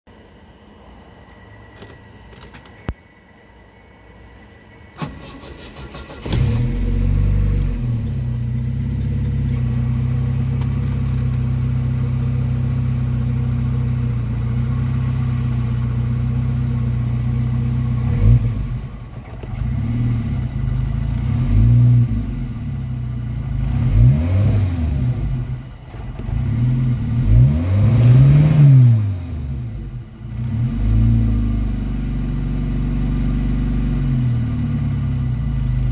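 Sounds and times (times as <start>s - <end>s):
car engine idling: 0.1s - 35.9s
car engine starting: 0.3s - 35.9s
car engine revving: 5.0s - 35.9s.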